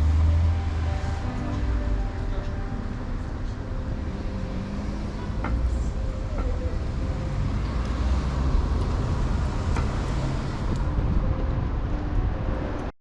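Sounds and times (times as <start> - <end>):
passing cars: 0.0 - 12.9.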